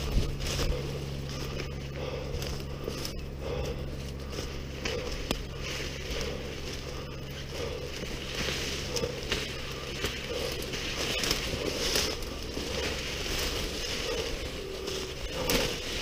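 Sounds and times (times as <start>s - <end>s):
footsteps through crunching undergrowth: 0.0s - 16.0s.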